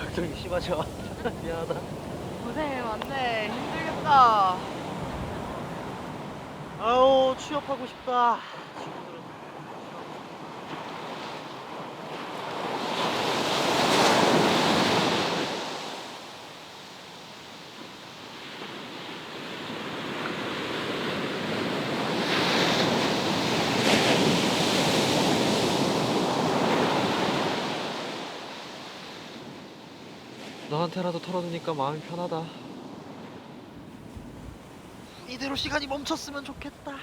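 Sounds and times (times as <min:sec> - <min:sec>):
sea waves surging and washing: 0:00.0 - 0:37.0.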